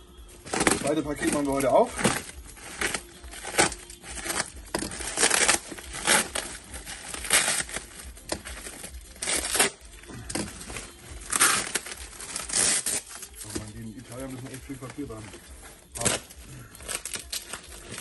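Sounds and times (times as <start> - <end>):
plastic wrap crinkling: 0.1 - 18.0.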